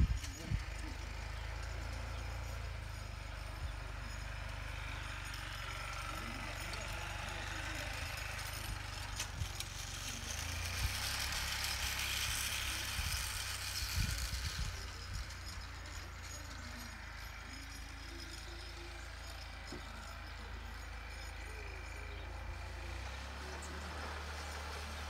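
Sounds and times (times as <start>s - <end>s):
distant tractor engine rumbling: 0.0s - 25.0s.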